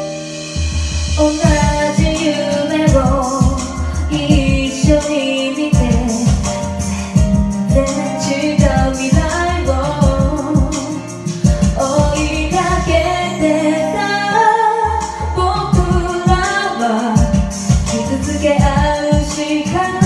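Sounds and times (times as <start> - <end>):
pop backing track with drums: 0.0 - 20.0
woman singing karaoke: 1.1 - 20.0.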